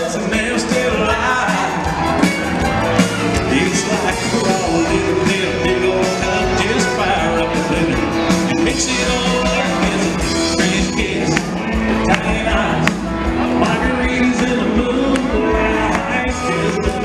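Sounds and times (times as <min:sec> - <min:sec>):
electric guitars: 0:00.0 - 0:17.0.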